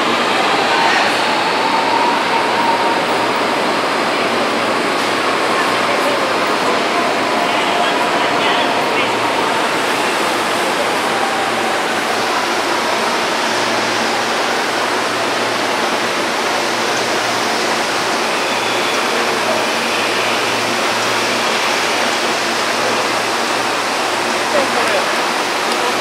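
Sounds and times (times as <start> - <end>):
busy train station rushing noise: 0.0 - 26.0.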